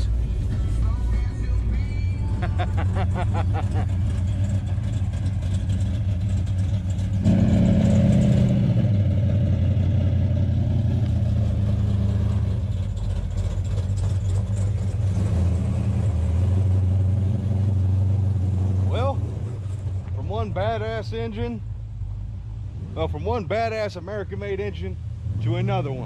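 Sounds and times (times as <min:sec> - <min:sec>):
car engine pulling away: 0:00.0 - 0:26.0.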